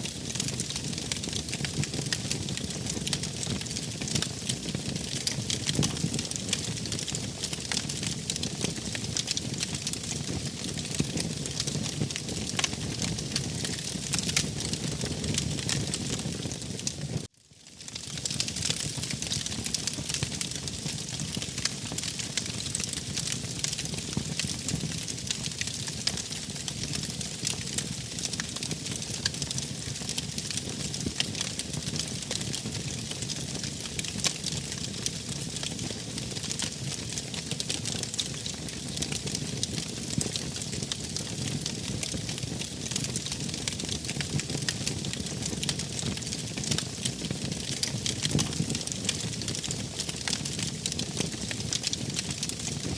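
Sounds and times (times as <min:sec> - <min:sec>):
low rumble of burning: 0:00.0 - 0:17.3, 0:17.9 - 0:52.9
wood fire crackling and popping: 0:00.0 - 0:52.9.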